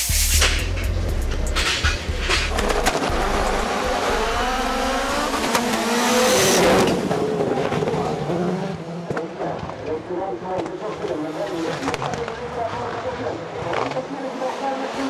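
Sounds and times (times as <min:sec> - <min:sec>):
rally cars accelerating: 0:00.6 - 0:15.0.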